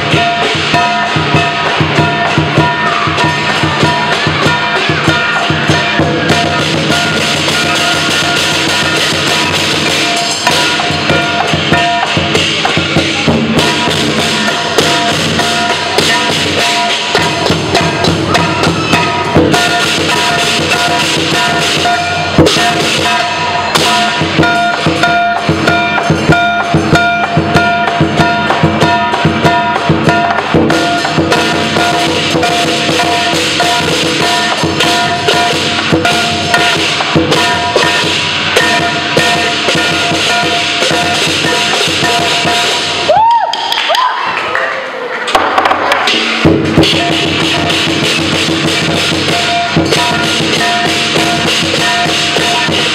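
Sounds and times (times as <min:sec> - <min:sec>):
cymbals ringing: 0:00.0 - 0:43.4, 0:46.0 - 0:52.9
drum beaten fast: 0:00.0 - 0:43.8, 0:45.3 - 0:52.9.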